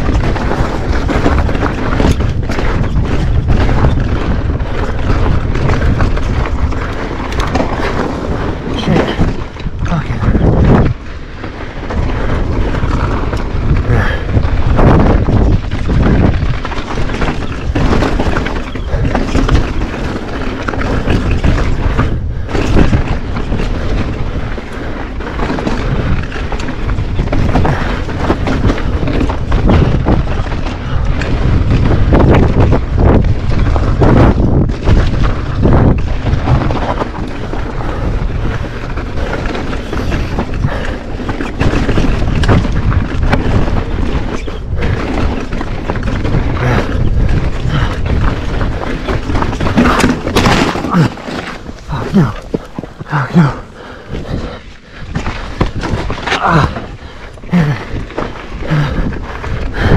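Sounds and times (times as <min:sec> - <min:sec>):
bike knocks and rattles: 0:00.0 - 0:59.9
tyres on loose dirt and rocks: 0:00.0 - 0:59.9
wind buffeting microphone: 0:00.0 - 0:59.9.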